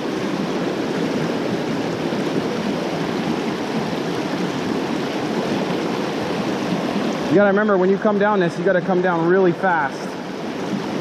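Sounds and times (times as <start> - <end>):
river water rushing over rapids: 0.0 - 11.0.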